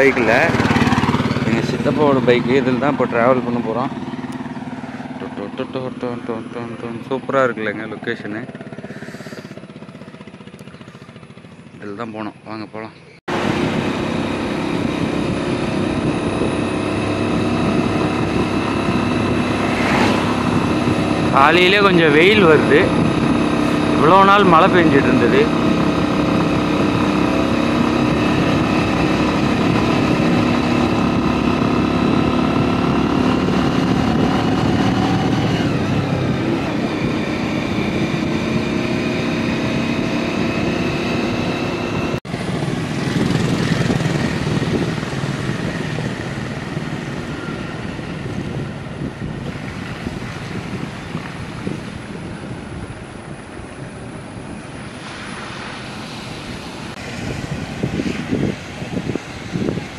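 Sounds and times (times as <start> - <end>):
wind rushing while riding: 0.0 - 5.6, 13.3 - 59.9
motorcycle engine running: 0.0 - 59.9.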